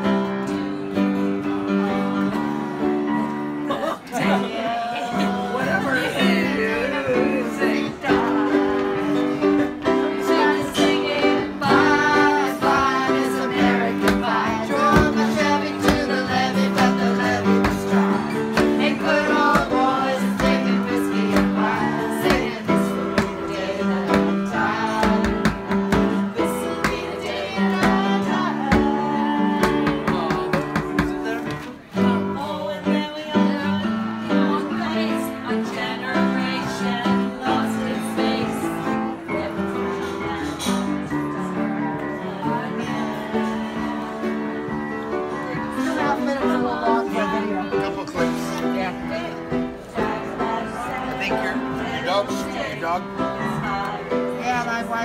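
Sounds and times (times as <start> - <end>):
group of people singing: 0.0 - 55.0
upright piano playing: 0.0 - 55.0.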